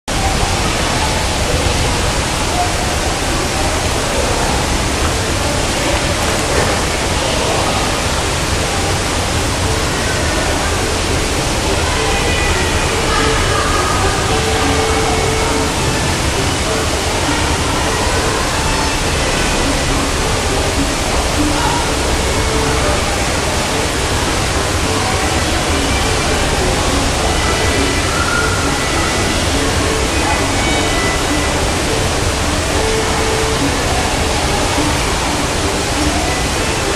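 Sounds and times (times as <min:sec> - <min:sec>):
running water hiss: 0:00.2 - 0:36.9.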